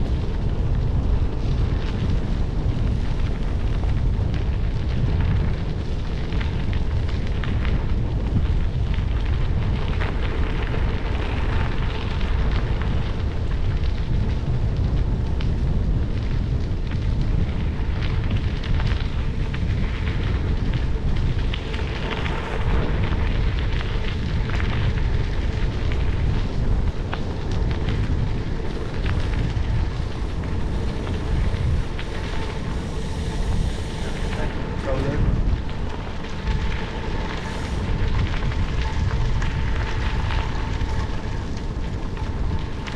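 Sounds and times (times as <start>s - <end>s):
bike tyres crunching on gravel: 0.0s - 42.9s
wind rumble on microphone: 0.0s - 42.9s.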